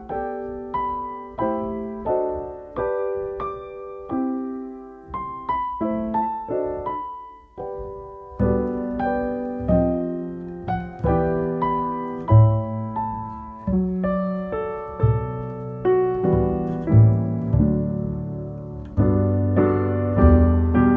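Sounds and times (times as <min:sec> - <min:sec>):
gentle piano music: 0:00.0 - 0:20.9.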